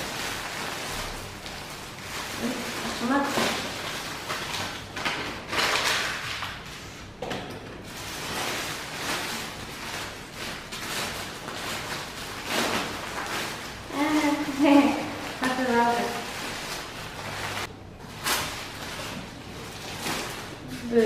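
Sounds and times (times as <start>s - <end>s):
plastic mailer bag tearing: 0.0s - 6.6s, 7.9s - 21.0s.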